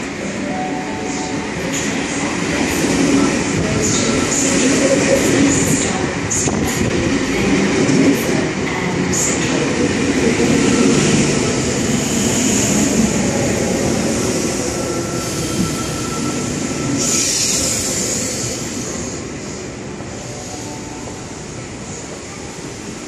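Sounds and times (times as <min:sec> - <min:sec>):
passenger train rolling past: 0:00.0 - 0:23.0.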